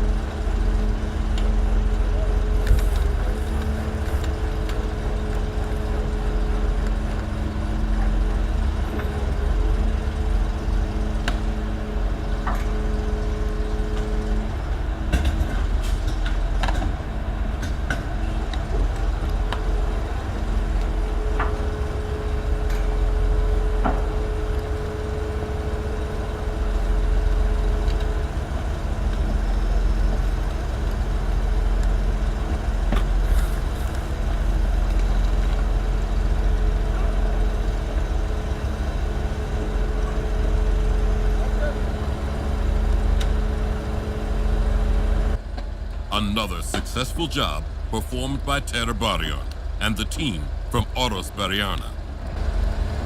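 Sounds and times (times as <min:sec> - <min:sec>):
diesel machinery rumbling: 0:00.0 - 0:53.0.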